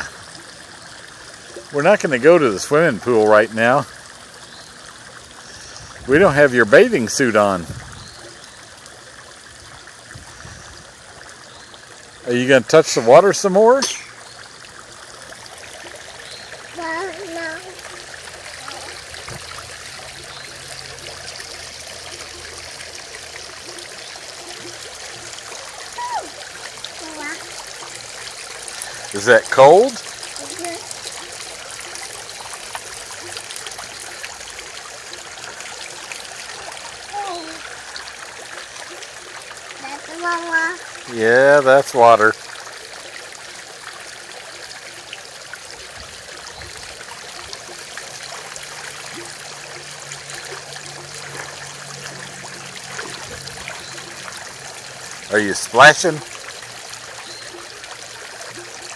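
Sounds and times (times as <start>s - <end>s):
fountain water running: 0.0s - 58.9s.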